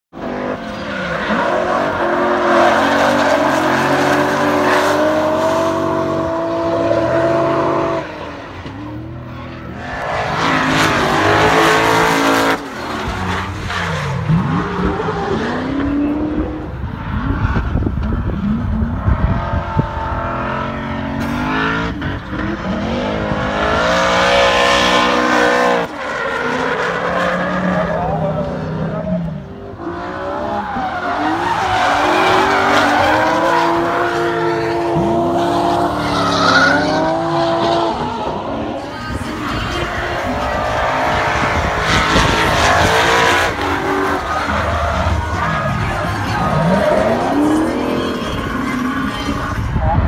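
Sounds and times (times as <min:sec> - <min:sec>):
car engine revving hard: 0:00.2 - 0:08.3, 0:09.9 - 0:50.0.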